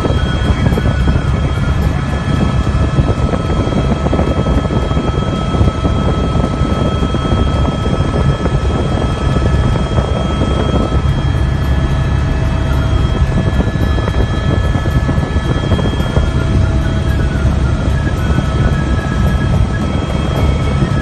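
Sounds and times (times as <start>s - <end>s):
helicopter rotor and engine drone: 0.0s - 21.0s
high turbine whine: 0.0s - 21.0s.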